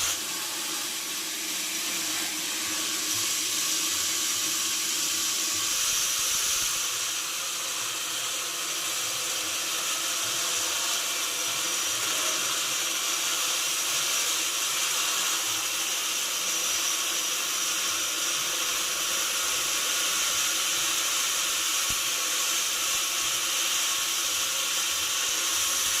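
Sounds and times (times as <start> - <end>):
sawmill saw cutting wood: 0.0 - 26.0.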